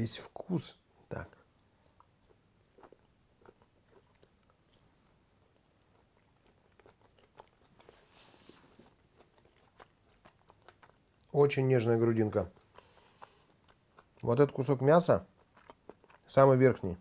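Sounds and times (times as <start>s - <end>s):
person chewing: 1.4s - 11.4s, 12.2s - 17.0s.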